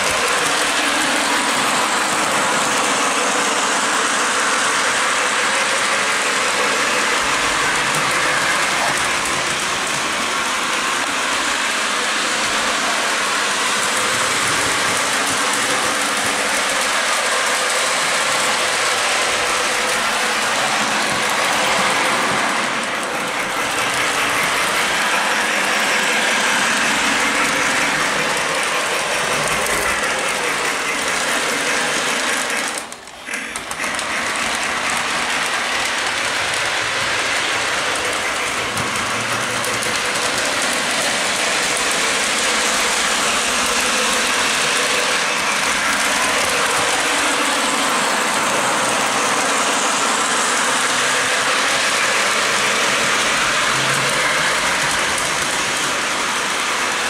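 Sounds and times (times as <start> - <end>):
model train whir and clatter: 0.0 - 57.0.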